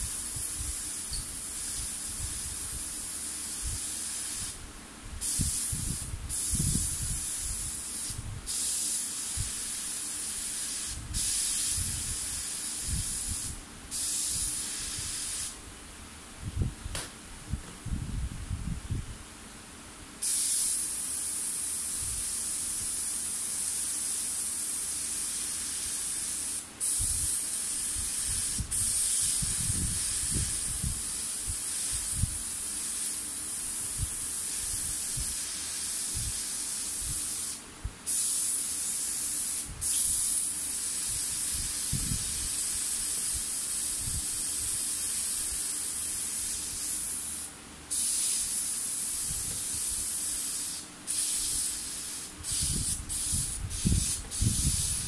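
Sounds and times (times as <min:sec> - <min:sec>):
airbrush spraying hiss: 0:00.0 - 0:04.6, 0:05.2 - 0:15.6, 0:20.2 - 0:55.0.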